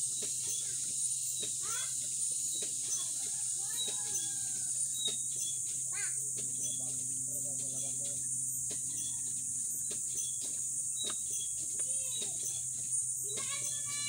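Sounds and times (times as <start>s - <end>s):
distant calls: 0.0s - 14.0s.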